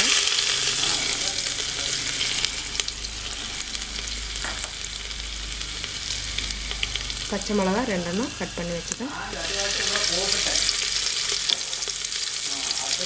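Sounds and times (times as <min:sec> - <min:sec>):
ginger sizzling in hot ghee: 0:00.0 - 0:13.0.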